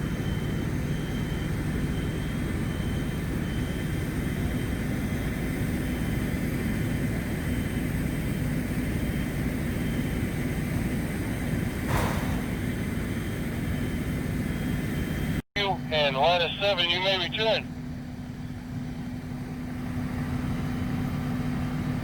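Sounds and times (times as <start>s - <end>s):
fire engines idling: 0.0s - 22.0s.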